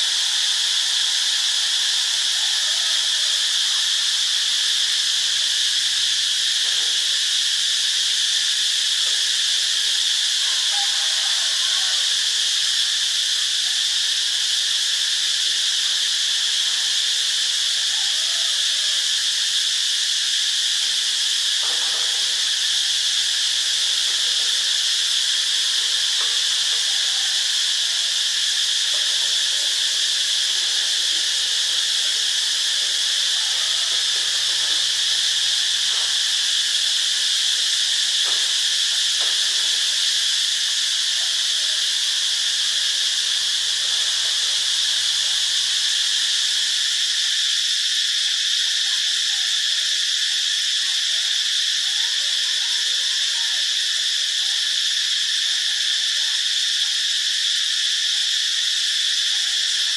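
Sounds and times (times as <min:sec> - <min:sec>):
cicada buzzing: 0:00.0 - 0:59.9.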